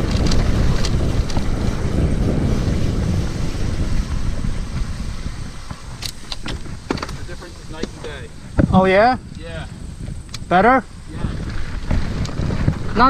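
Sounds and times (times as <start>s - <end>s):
bike rattling on trail: 0.0s - 13.0s
wind buffeting microphone: 0.0s - 13.0s.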